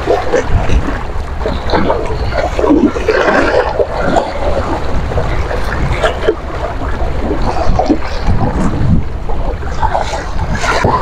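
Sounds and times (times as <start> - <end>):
waves splashing: 0.0 - 11.0
wind buffeting microphone: 0.0 - 11.0.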